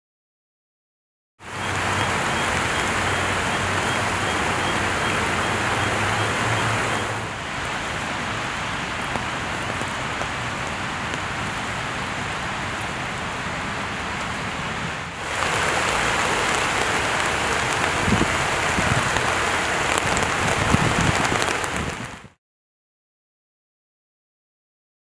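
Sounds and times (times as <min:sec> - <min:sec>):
floodwater rushing over a curb: 0:01.4 - 0:22.4
steady rain falling: 0:01.4 - 0:22.4.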